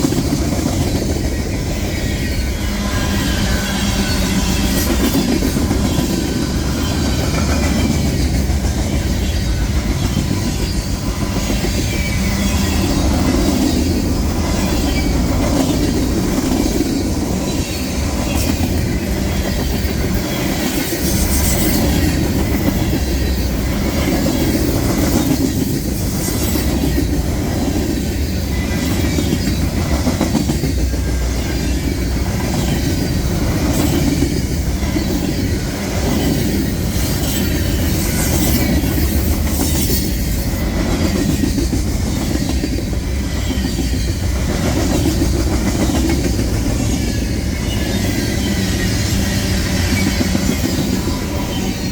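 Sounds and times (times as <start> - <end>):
train wheels clacking over joints: 0.0 - 51.9.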